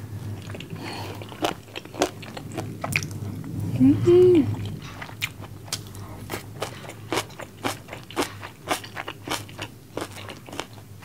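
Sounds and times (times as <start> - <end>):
chewing crunchy food: 0.2 - 3.6, 4.5 - 11.0.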